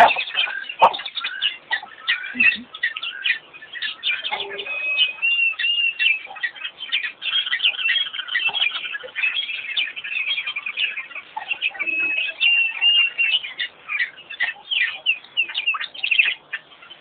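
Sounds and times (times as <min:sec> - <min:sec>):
birds chirping in a chorus: 0:00.0 - 0:17.0.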